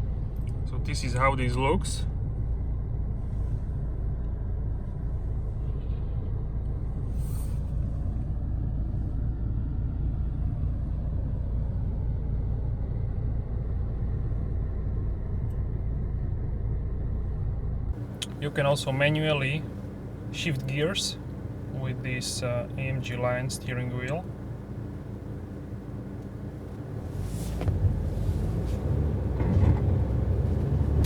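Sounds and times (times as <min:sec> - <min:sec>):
car tyre and road noise: 0:00.0 - 0:31.0.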